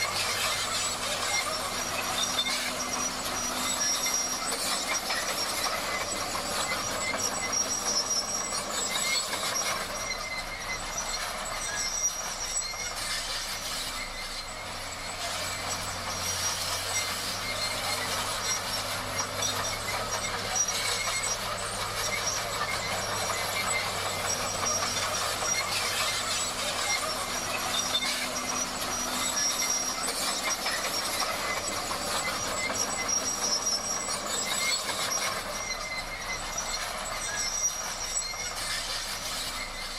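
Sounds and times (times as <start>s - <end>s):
bulldozer diesel engine running: 0.0s - 39.9s
steel tracks clanking and squealing: 0.0s - 39.9s.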